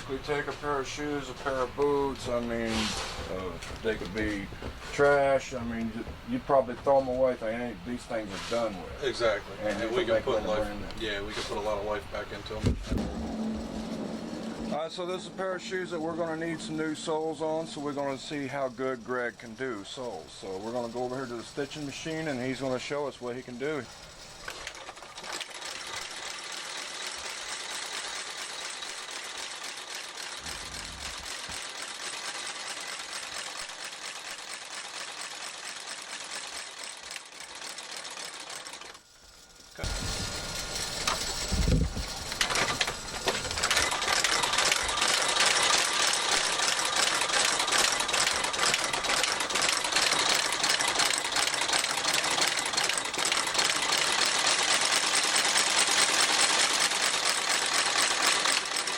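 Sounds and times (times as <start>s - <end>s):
stitching machine humming: 0.0s - 58.9s
machine stitching clatter: 0.1s - 14.9s, 15.7s - 58.9s.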